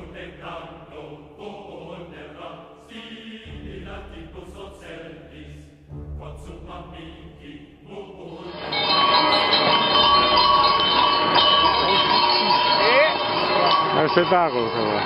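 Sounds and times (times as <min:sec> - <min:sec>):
choir chanting: 0:00.0 - 0:15.0
low sustained accompaniment: 0:00.0 - 0:15.0.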